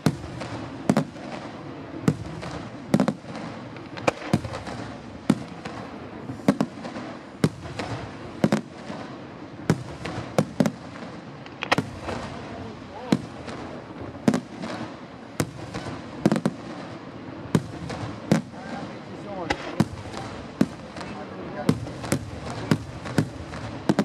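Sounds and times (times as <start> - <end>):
steady background hiss: 0.0 - 24.0
firework shells bursting: 2.1 - 9.1, 9.7 - 24.0.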